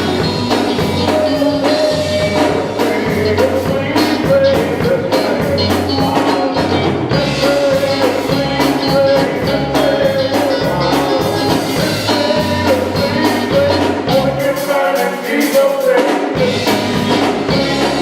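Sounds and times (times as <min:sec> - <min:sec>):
bass line: 0:00.0 - 0:14.9, 0:16.4 - 0:18.0
drum kit beat: 0:00.0 - 0:18.0
gospel band music: 0:00.0 - 0:18.0.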